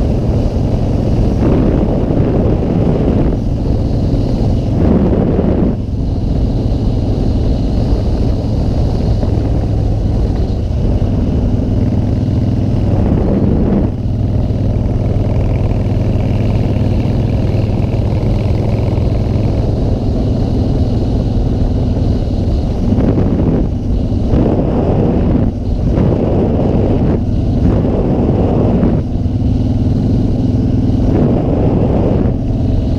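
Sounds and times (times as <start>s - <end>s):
motorcycle engine running: 0.0s - 32.9s
wind rushing over microphone: 0.0s - 32.9s.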